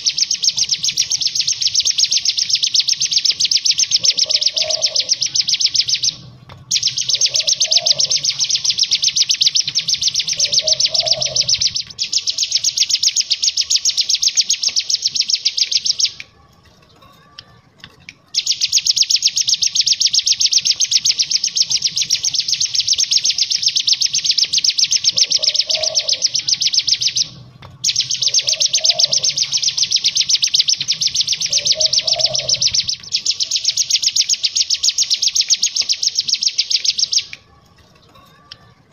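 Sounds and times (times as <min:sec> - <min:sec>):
bird singing rapid high trills: 0:00.0 - 0:16.2, 0:18.3 - 0:37.4.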